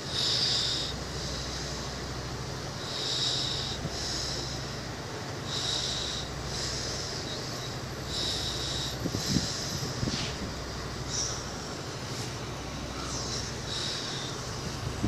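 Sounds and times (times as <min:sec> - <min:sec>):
hiss: 0:00.0 - 0:15.0.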